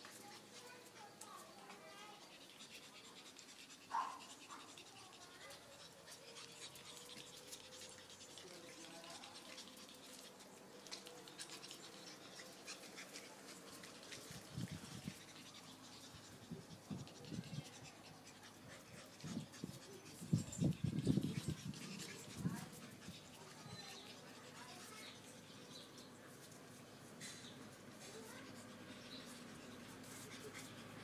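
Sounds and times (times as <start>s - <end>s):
puppy noises: 0.0s - 31.0s
claws scratching on concrete: 0.1s - 25.4s, 26.0s - 31.0s.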